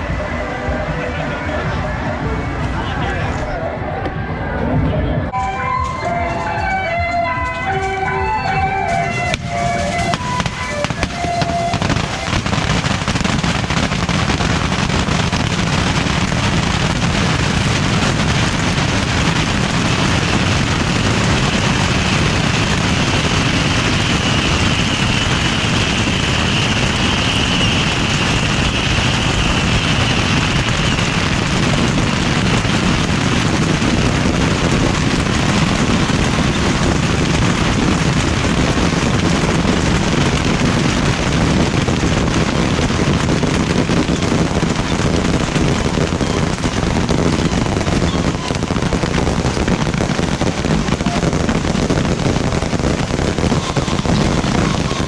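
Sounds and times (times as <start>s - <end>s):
bottle rockets crackling and banging: 8.9s - 55.0s.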